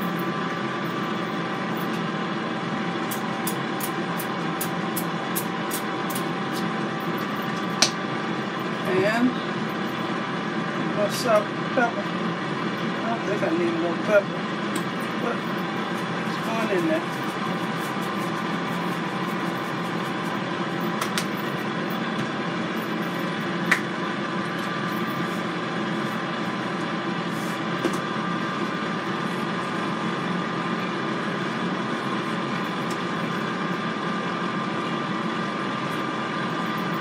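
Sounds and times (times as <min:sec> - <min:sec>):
air fryer fan humming: 0:00.0 - 0:37.0.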